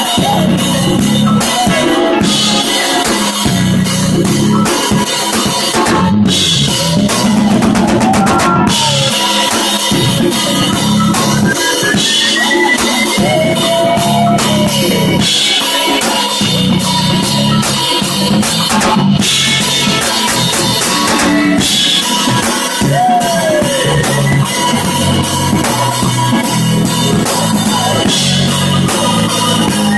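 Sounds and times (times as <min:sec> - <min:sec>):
drum kit: 0:00.0 - 0:29.9
jazz-funk band playing: 0:00.0 - 0:29.9
sliding lead instrument: 0:00.0 - 0:29.9.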